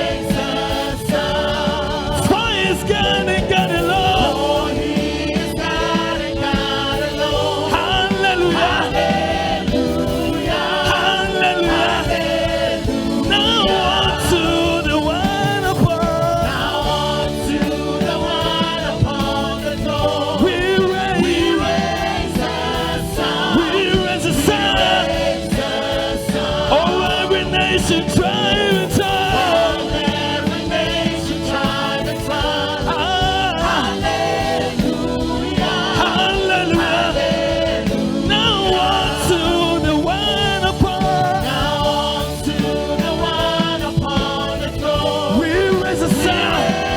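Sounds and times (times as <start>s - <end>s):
gospel choir with band: 0.0s - 46.9s.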